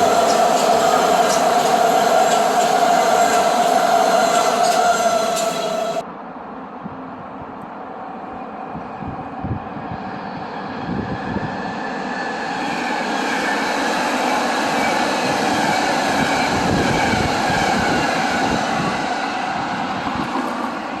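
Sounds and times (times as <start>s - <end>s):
train running on rails: 0.0s - 21.0s.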